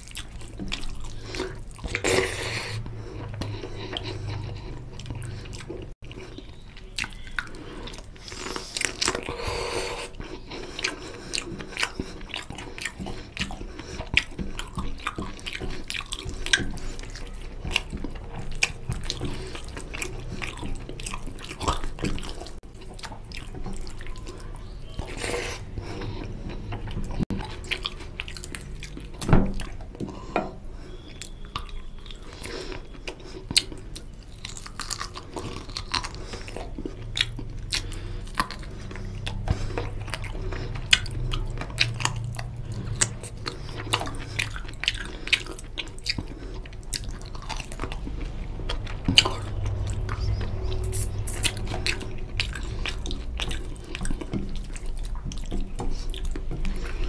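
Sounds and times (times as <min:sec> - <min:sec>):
open-mouthed chewing: 0:00.0 - 0:57.0.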